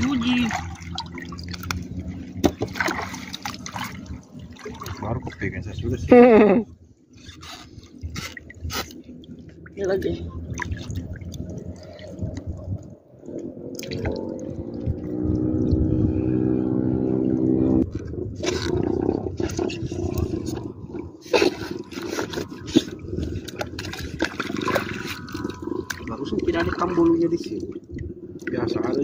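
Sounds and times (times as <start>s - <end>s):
water splashing and dripping: 0.0s - 6.1s, 7.2s - 16.0s, 17.8s - 29.0s.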